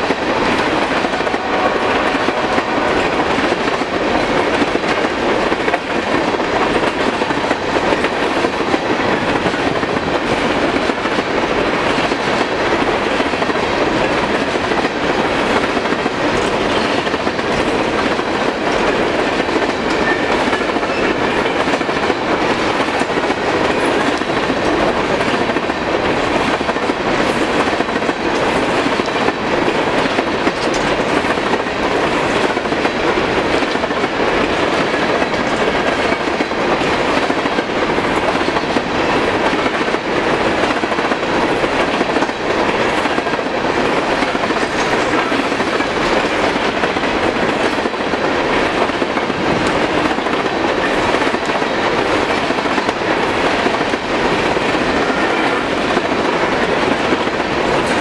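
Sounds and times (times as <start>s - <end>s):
faint rail clacks: 0.0s - 58.0s
train wheels rolling on rails: 0.0s - 58.0s.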